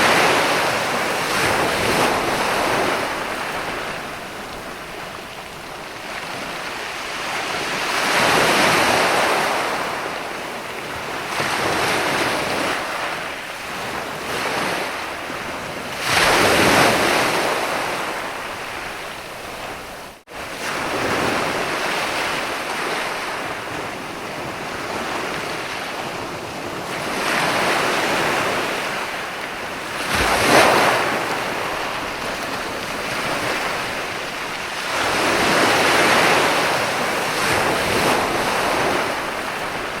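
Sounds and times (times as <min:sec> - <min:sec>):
sea waves breaking on a beach: 0:00.0 - 0:40.0.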